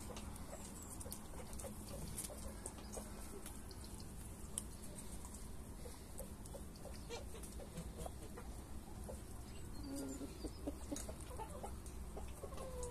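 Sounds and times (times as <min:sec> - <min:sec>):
chickens clucking: 0:00.0 - 0:12.9.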